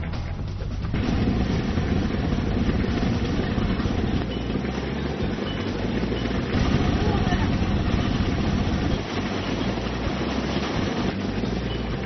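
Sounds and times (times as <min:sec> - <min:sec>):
harvester machine running: 0:00.8 - 0:12.0.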